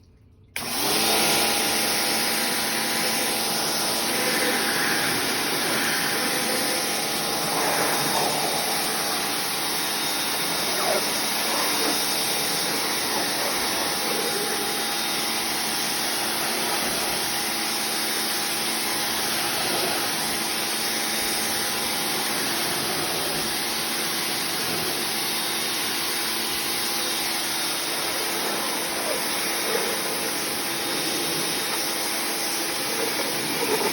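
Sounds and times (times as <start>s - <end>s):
pressure washer motor humming: 0.6s - 33.9s
water jet hissing: 0.8s - 33.9s.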